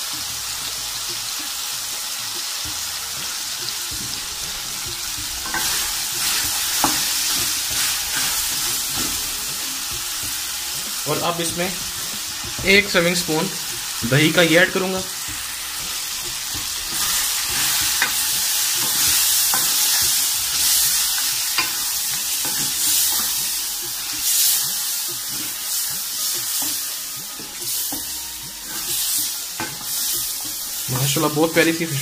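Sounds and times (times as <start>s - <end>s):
food sizzling in a metal pan: 0.0s - 32.0s
wooden spoon scraping and knocking pan: 3.9s - 14.3s, 15.2s - 31.2s.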